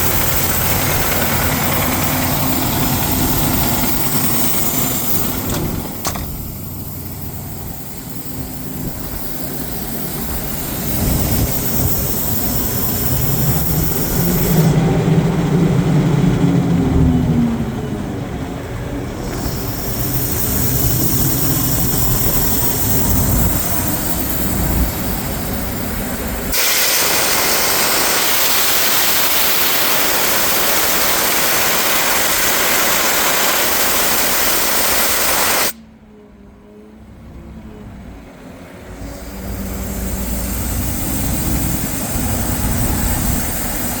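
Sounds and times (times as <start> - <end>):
compressed air hissing: 0.0 - 14.8, 19.2 - 35.8, 38.9 - 44.0
diesel compressor engine running: 0.0 - 44.0.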